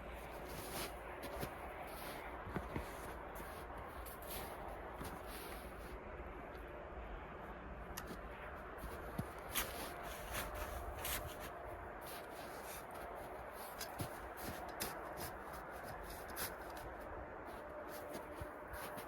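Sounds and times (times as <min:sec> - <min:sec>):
rustling and handling noises: 0:00.0 - 0:06.0, 0:08.0 - 0:19.0.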